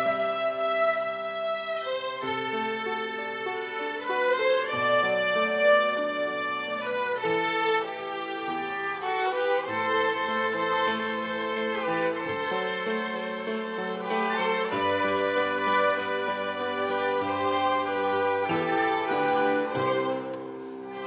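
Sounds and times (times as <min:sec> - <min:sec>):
violin ensemble playing slow melody: 0:00.0 - 0:21.0.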